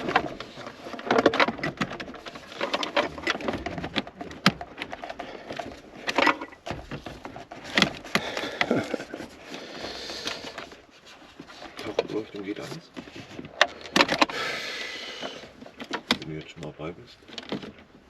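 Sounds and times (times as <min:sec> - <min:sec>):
car interior parts clicking and rattling: 0:00.0 - 0:14.5, 0:15.2 - 0:18.0.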